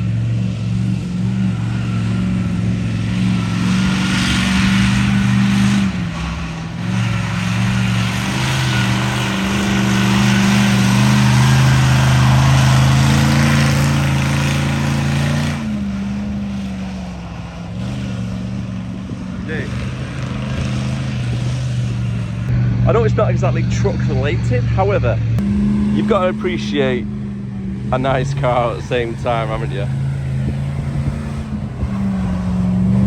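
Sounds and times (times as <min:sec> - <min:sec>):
monster truck engine running: 0:00.0 - 0:33.0.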